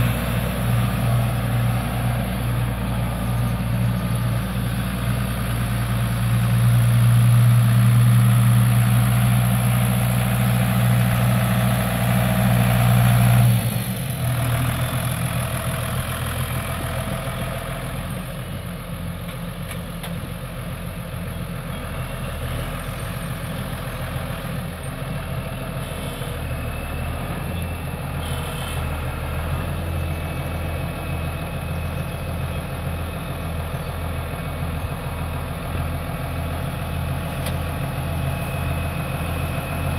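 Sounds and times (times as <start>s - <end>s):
diesel tractor engine: 0.0s - 39.9s.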